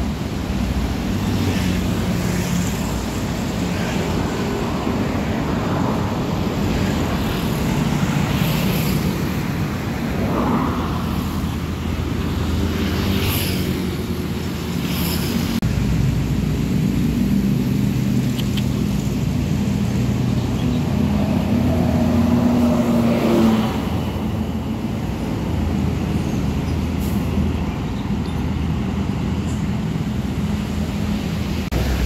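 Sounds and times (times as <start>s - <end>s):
bus diesel engines humming: 0.0s - 32.0s
tyre and traffic noise: 0.0s - 32.0s.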